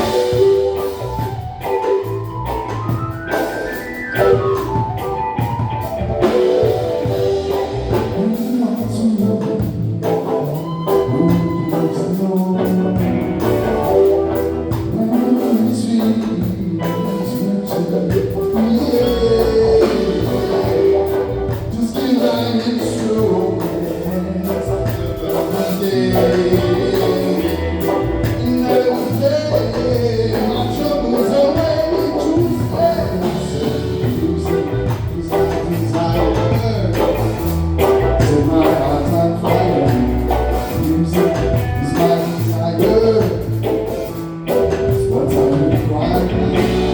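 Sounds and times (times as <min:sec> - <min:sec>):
live band playing: 0:00.0 - 0:46.9.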